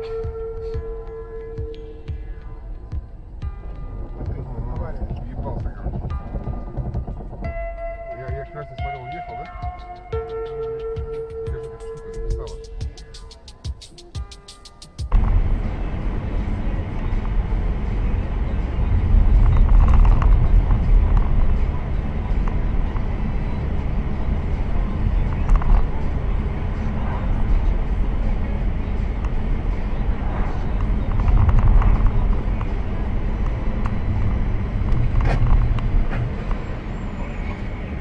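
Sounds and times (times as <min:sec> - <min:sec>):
vehicle engine and road rumble: 0:00.0 - 0:38.0.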